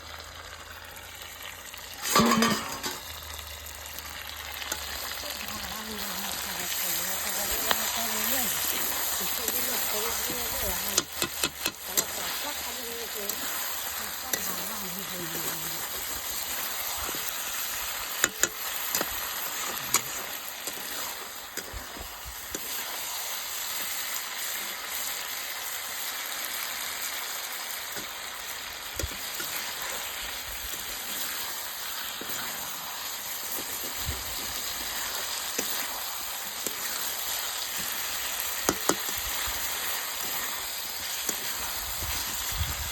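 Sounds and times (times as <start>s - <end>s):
chicken sizzling in hot oil: 0.0s - 42.9s.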